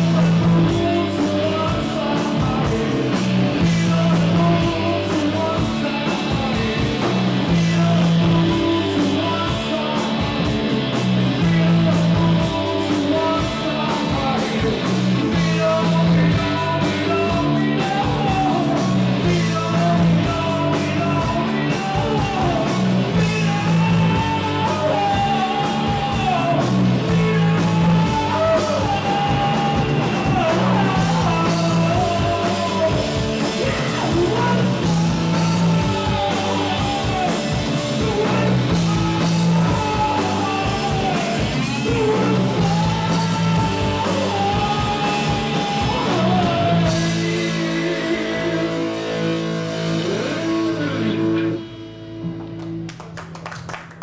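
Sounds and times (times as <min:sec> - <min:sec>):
lead singer singing: 0:00.0 - 0:51.8
rock band playing: 0:00.0 - 0:54.0.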